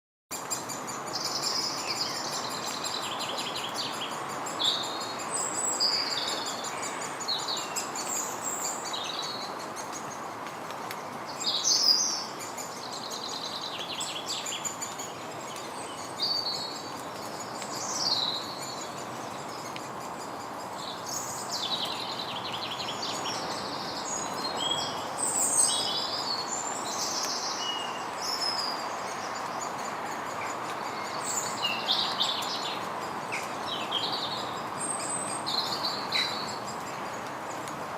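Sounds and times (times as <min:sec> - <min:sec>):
background hiss: 0:00.3 - 0:37.9.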